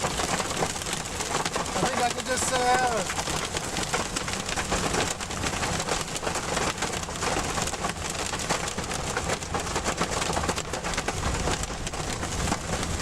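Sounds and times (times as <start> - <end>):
car rumbling on road: 0.0 - 13.0
rain and hail hitting car: 0.0 - 13.0.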